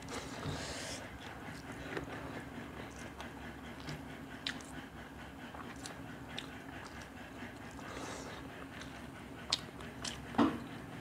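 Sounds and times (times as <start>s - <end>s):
chewing and wet mouth noises: 1.2s - 10.7s.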